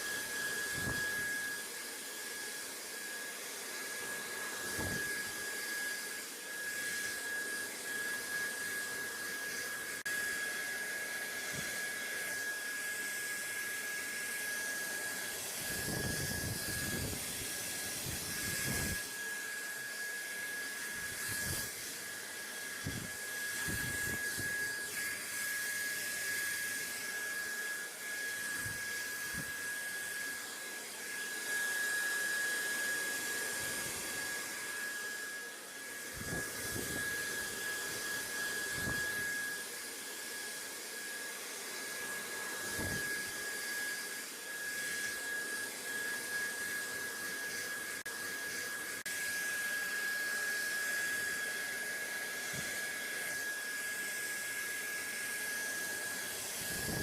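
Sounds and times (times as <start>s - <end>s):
appliance motor whine and air rush: 0.0s - 57.0s.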